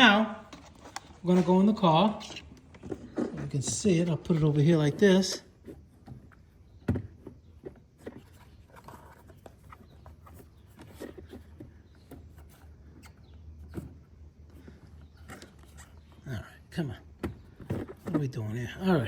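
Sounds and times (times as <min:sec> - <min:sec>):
handling knocks and clicks: 0:00.0 - 0:16.2, 0:17.1 - 0:19.0.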